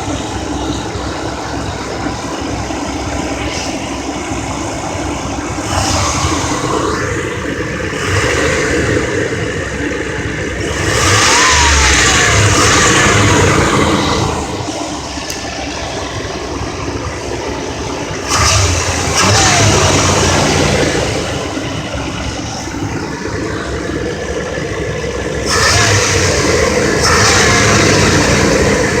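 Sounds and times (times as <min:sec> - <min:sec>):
engine idling and revving: 0:00.0 - 0:29.0.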